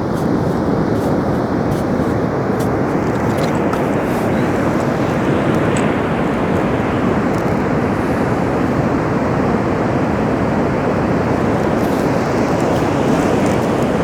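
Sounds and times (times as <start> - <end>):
ocean surf: 0.0 - 14.0
wind: 0.0 - 14.0.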